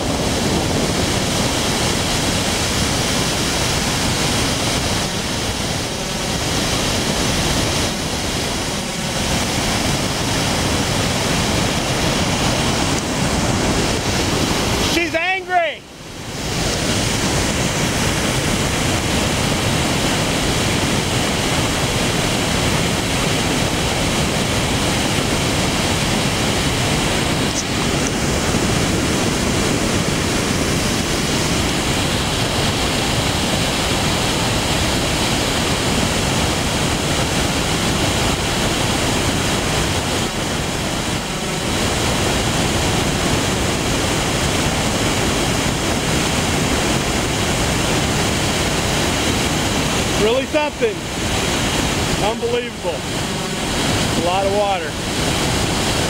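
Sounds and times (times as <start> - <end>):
water rushing over a spillway: 0.0 - 56.0.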